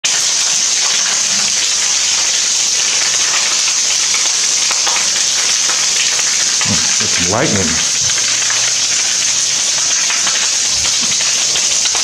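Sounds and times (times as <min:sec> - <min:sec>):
heavy rain on hard surfaces: 0:00.0 - 0:12.0.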